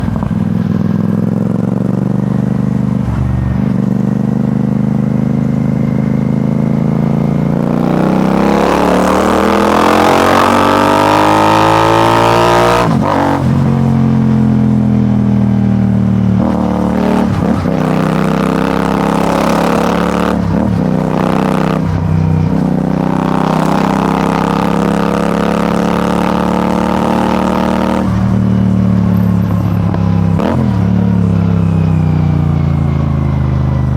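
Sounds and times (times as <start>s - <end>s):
motorcycle engine revving and shifting: 0.0s - 33.9s.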